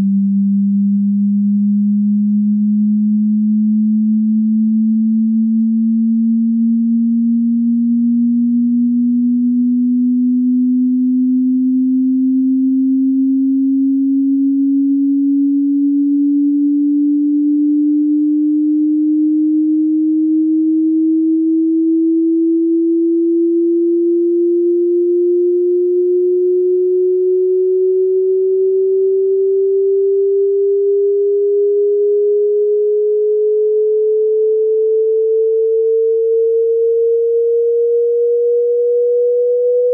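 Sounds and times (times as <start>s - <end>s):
sine tone rising in pitch: 0.0s - 39.9s.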